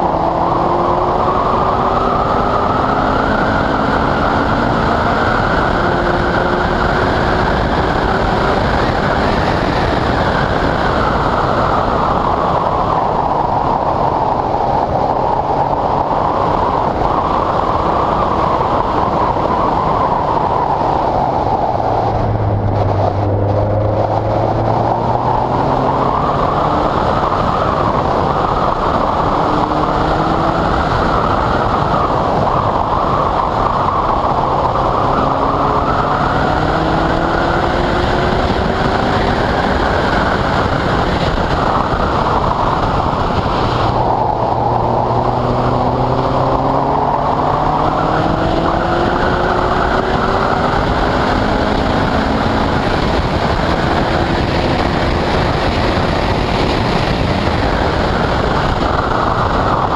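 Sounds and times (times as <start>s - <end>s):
sports car engine: 0.0s - 59.9s
wind and tyre spray rushing: 0.0s - 59.9s.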